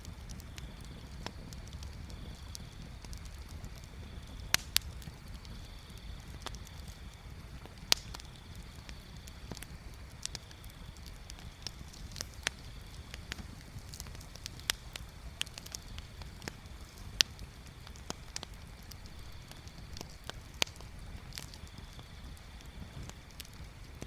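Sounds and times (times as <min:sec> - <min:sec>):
bonfire crackling and popping: 0:00.0 - 0:24.0
steady low rumble: 0:00.0 - 0:24.0.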